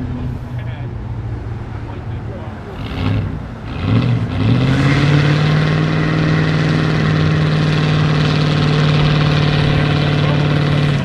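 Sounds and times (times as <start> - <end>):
car engine at steady revs: 0.0 - 11.0.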